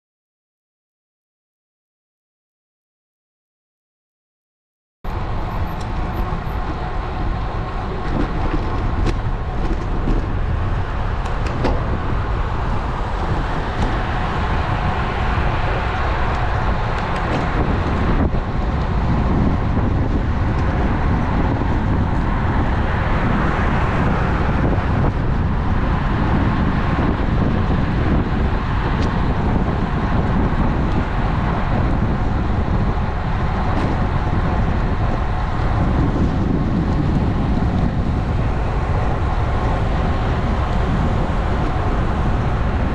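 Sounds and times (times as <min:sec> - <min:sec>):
road noise: 0:05.0 - 0:42.9
wind rush: 0:05.1 - 0:42.9.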